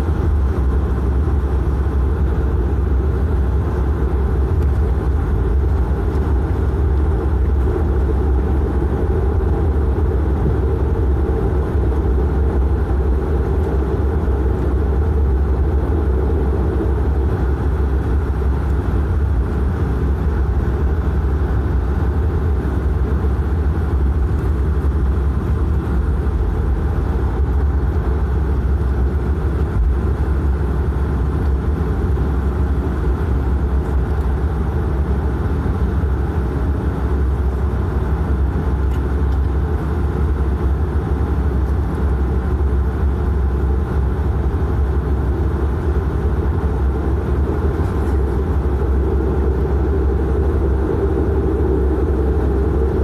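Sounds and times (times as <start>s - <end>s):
turboprop engine drone: 0.0s - 53.0s.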